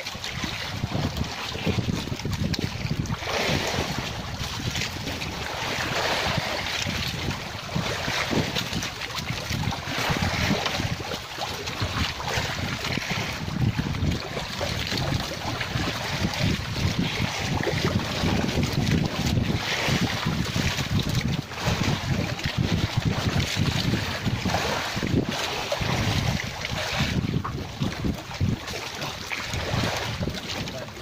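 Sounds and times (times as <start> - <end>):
sea waves washing: 0.0 - 31.0
wind buffeting microphone: 0.0 - 31.0.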